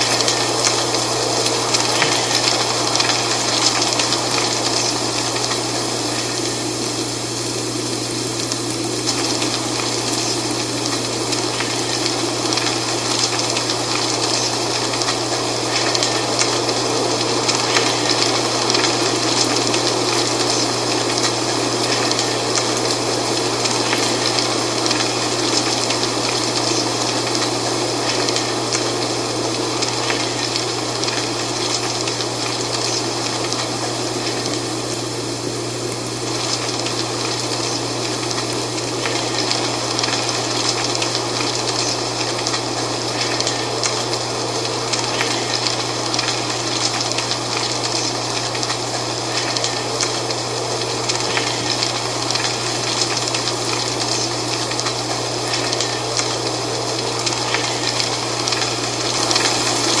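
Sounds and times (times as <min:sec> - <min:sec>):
constant low hum: 0:00.0 - 1:00.0
dry leaves rustling in wind: 0:00.0 - 1:00.0.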